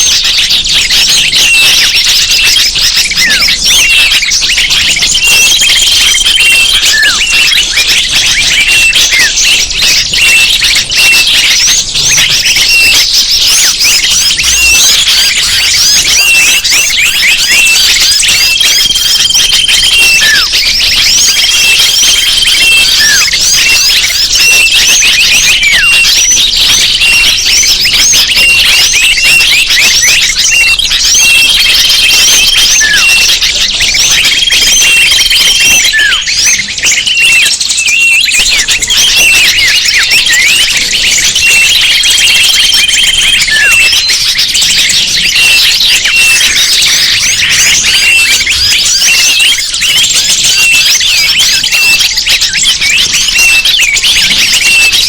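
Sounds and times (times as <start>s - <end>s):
small birds chirping: 0.0s - 55.0s
whistled bird notes: 0.0s - 55.0s.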